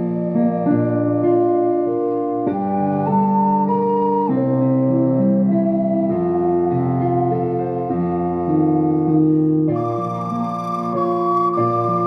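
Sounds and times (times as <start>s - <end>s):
ocarina melody: 0.0s - 12.0s
piano chords: 0.0s - 12.0s.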